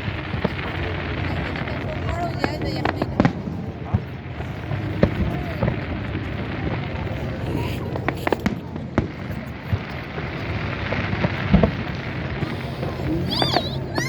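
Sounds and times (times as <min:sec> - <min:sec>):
background voices: 0:00.0 - 0:14.0.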